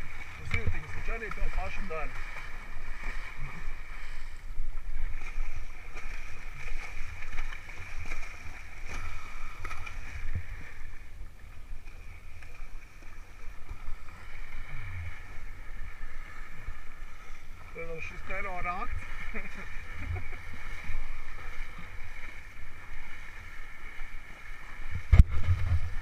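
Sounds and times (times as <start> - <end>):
horses splashing through water: 0.0 - 26.0.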